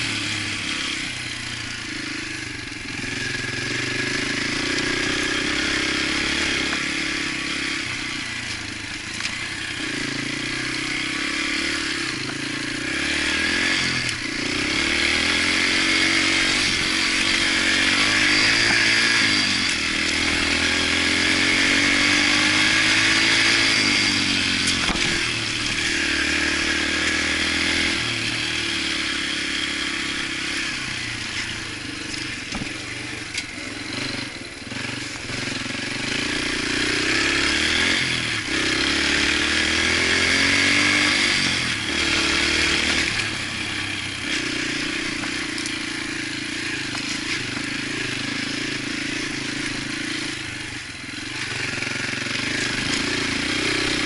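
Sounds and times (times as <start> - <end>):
motorcycle engine running under load: 0.0 - 54.0.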